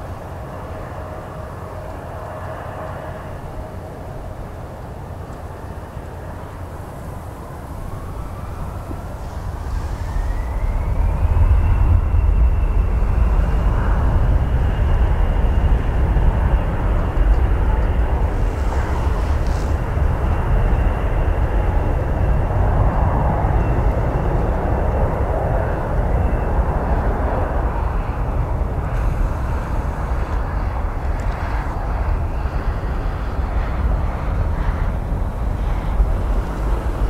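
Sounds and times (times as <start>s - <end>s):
jet engine roar: 0.0s - 37.0s
wind rumble on microphone: 0.0s - 37.0s.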